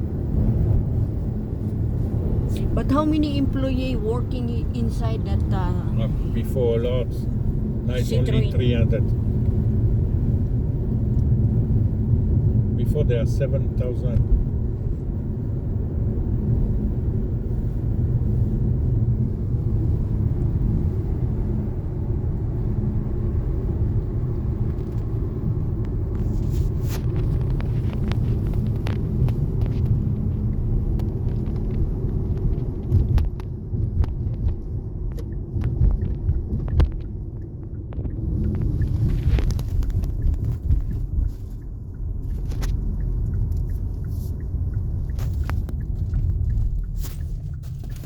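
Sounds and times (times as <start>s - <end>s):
car engine and tyres rumbling: 0.0s - 48.0s.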